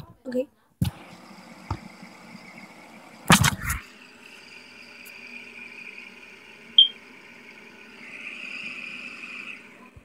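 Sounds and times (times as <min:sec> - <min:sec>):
fidget spinner whirring: 0:00.8 - 0:10.0.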